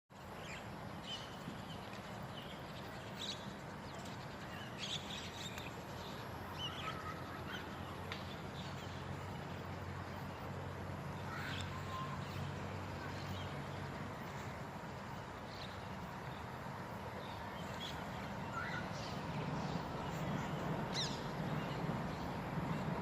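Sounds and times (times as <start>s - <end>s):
steady low hum: 0.2s - 23.0s
birds chirping: 0.3s - 23.0s.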